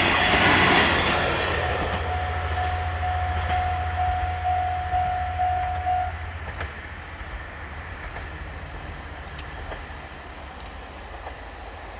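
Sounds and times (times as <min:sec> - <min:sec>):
train rumbling: 0:00.0 - 0:11.9.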